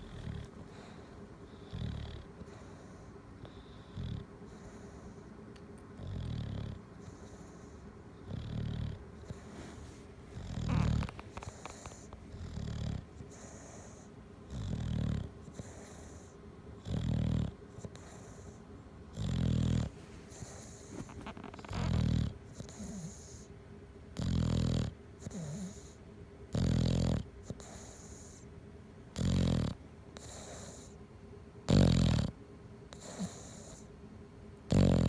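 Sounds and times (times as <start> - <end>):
dog snoring: 0.0 - 5.3, 6.0 - 23.5, 24.1 - 28.5, 29.1 - 31.0, 31.6 - 33.9, 34.7 - 35.0.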